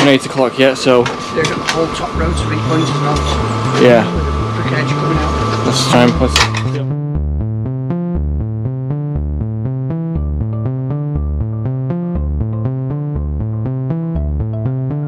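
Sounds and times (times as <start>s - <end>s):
electronic music with beat: 2.2s - 15.0s.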